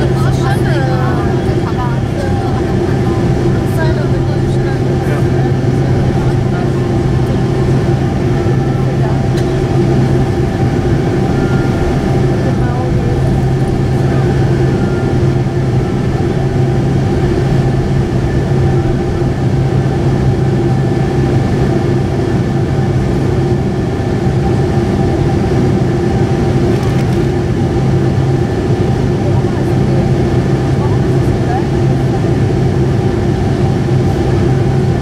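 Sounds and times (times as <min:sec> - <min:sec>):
jet engines idling drone: 0:00.0 - 0:35.0.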